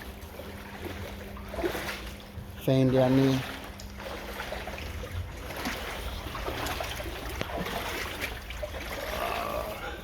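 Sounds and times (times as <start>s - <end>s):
small splashes or knocks: 0.0s - 9.6s
water trickling and splashing: 0.0s - 10.0s.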